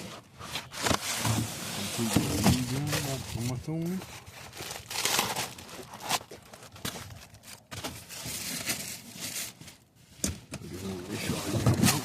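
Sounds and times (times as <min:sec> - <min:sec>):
rustling crinkling handling noise: 0:00.0 - 0:12.0.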